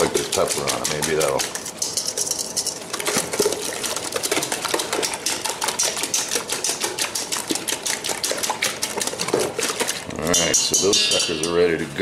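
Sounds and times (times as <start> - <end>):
whisk clicking against metal bowl: 0.0 - 11.8.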